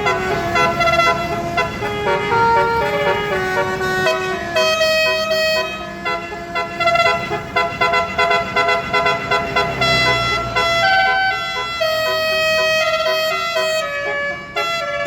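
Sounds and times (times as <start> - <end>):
multi-tone air horn melody: 0.0 - 15.0.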